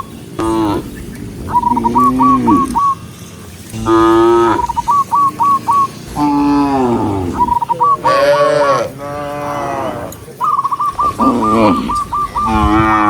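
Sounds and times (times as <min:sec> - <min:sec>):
cows mooing: 0:00.0 - 0:13.0.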